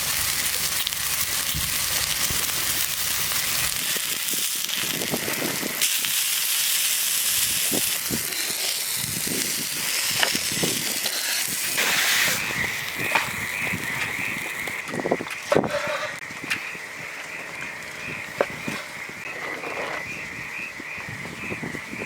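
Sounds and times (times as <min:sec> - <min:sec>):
crackles and pops: 0:00.0 - 0:22.0
food sizzling over campfire: 0:00.0 - 0:22.0.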